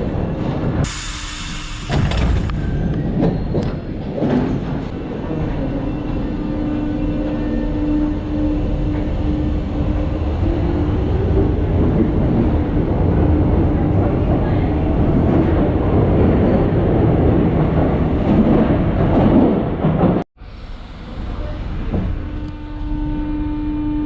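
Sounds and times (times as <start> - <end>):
wheels rumbling on rails: 1.9 - 24.0.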